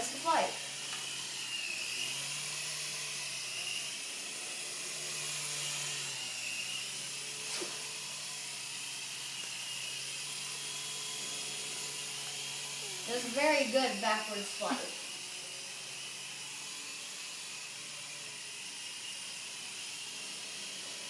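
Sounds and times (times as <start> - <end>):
rc helicopter whine: 0.0 - 21.0.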